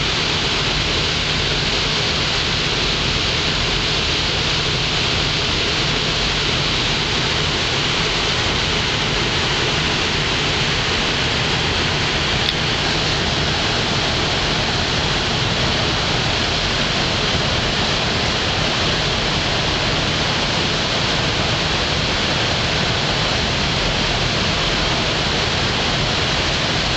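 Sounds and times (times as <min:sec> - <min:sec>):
water rushing along hull: 0:00.0 - 0:26.9.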